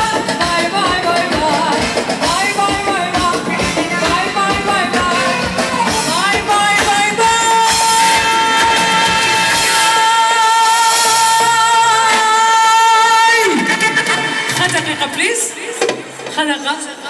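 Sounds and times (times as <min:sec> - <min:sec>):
woman singing into a microphone: 0:00.0 - 0:15.8
band with a steady beat: 0:00.0 - 0:16.3.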